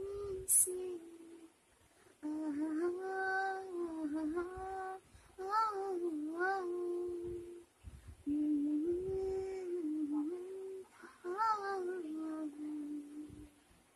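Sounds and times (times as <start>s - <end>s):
woman humming a slow melody: 0.0s - 1.5s, 2.2s - 13.6s.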